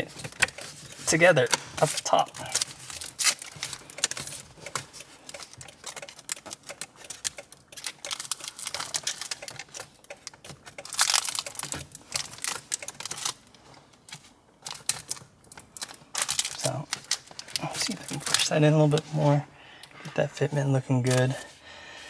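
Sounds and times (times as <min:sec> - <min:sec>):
plastic film crinkling: 0:00.6 - 0:10.0, 0:10.6 - 0:19.4.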